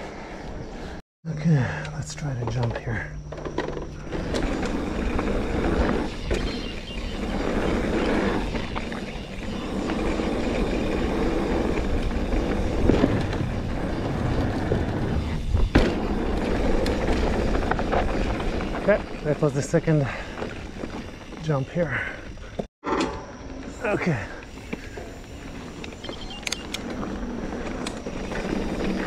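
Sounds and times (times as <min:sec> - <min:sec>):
bike rattling: 0:02.9 - 0:22.7, 0:23.4 - 0:29.0
bike tyres rolling on dirt: 0:02.9 - 0:22.7, 0:23.4 - 0:29.0.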